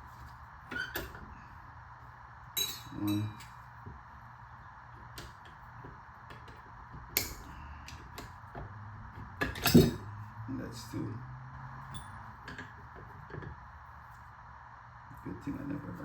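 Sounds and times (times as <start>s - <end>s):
steady faint hum: 0.0s - 16.0s.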